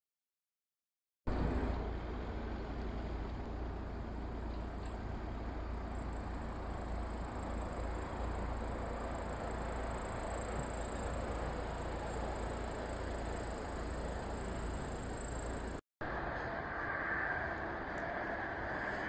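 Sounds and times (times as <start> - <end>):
city noise: 1.3 - 19.0
distant train rumble: 1.3 - 19.0
high-pitched whine: 1.3 - 19.0.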